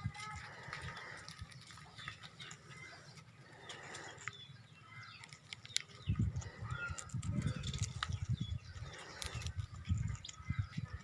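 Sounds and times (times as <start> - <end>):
pet bird chirping: 0.5 - 11.0.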